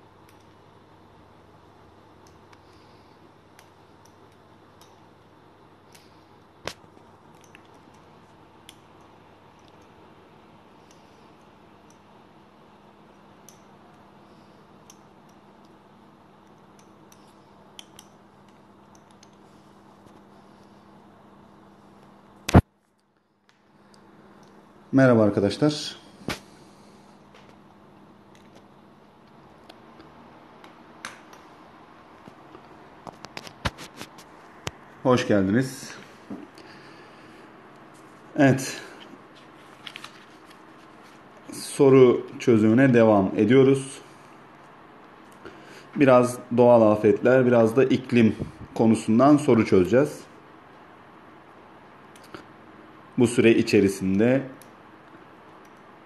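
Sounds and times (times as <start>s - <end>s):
faint steady hum: 0.0s - 56.0s
steady low hiss: 0.0s - 56.0s.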